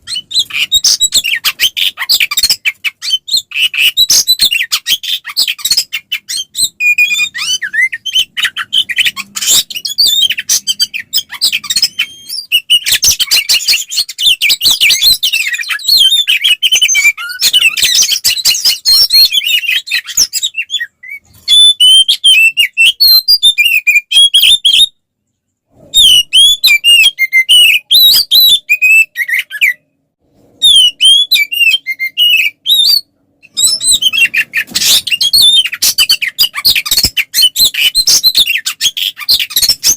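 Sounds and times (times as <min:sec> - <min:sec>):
bird singing rapid whistles: 0:00.0 - 0:25.0, 0:25.9 - 0:29.9, 0:30.6 - 0:39.9.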